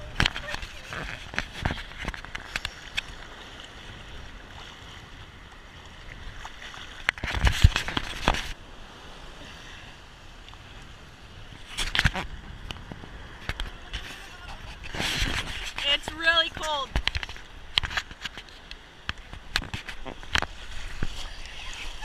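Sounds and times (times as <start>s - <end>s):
water sloshing and splashing: 0.0s - 9.3s, 10.3s - 22.0s
wind: 0.0s - 22.0s.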